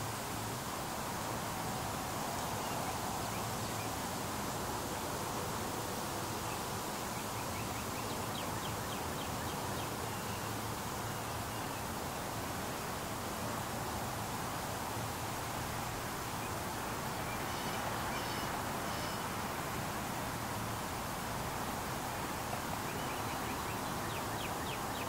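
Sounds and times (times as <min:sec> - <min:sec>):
steady outdoor hiss: 0:00.0 - 0:25.0.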